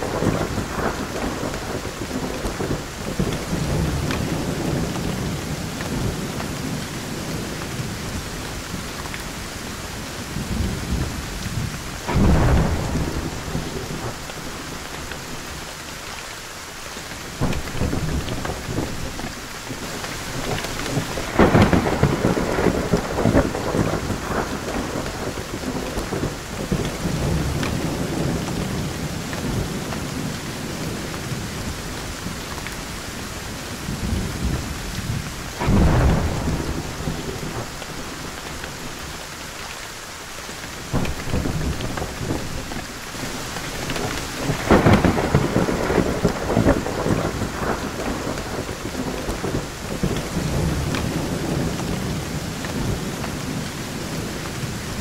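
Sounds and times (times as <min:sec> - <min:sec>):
rolling thunder: 0:00.0 - 0:09.5, 0:10.2 - 0:15.6, 0:20.2 - 0:39.2, 0:40.8 - 0:55.0
hard rain: 0:00.0 - 0:55.0.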